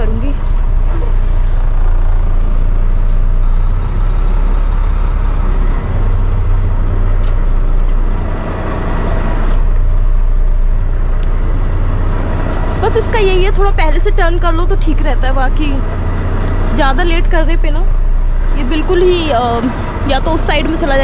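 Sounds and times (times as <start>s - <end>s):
diesel engine running low: 0.0s - 21.0s.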